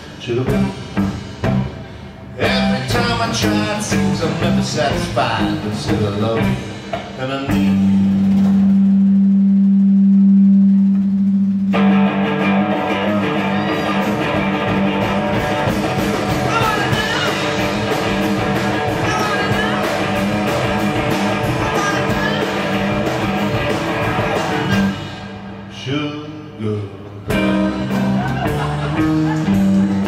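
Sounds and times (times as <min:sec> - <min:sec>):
drums and cymbals: 0:00.0 - 0:25.7, 0:27.3 - 0:30.0
electric guitar: 0:00.0 - 0:25.9, 0:27.1 - 0:30.0
bass guitar: 0:00.0 - 0:30.0.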